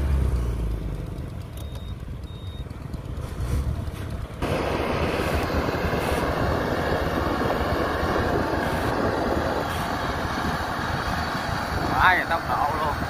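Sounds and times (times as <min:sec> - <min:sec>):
motorbikes passing: 0:00.0 - 0:13.0
tractor engine: 0:00.0 - 0:13.0.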